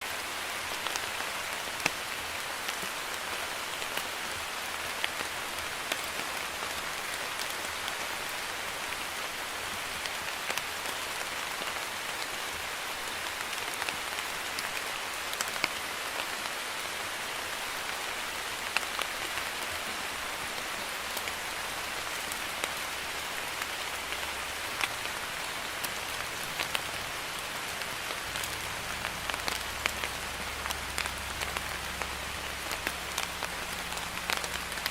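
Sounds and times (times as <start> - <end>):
light rain hissing: 0.0 - 34.9
raindrops ticking on a surface: 0.1 - 34.9.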